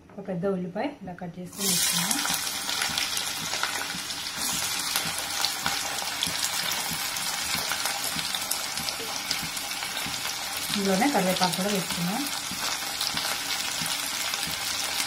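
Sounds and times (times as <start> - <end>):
onion sizzling in hot oil: 1.5 - 15.0.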